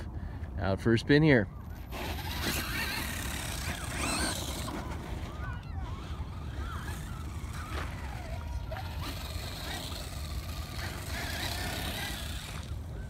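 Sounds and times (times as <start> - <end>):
electric motor whining: 1.6 - 13.0.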